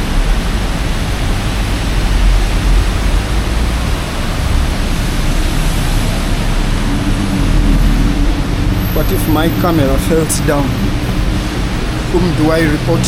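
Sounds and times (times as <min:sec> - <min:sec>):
heavy rain hissing: 0:00.0 - 0:13.0
low rumble: 0:00.0 - 0:13.0.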